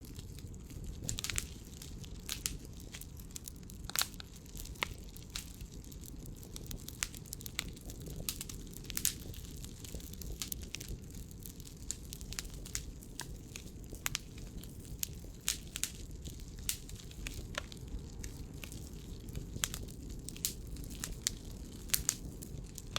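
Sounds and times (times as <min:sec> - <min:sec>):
firewood crackling and popping: 0:00.0 - 0:22.9
low fire rumble: 0:00.0 - 0:22.9.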